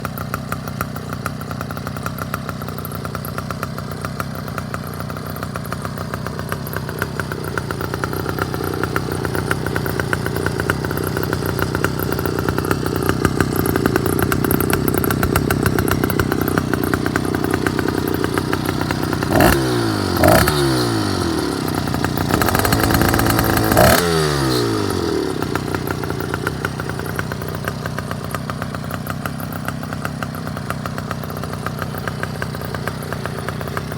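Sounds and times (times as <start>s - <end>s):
two-stroke engine idling and revving: 0.0s - 33.9s.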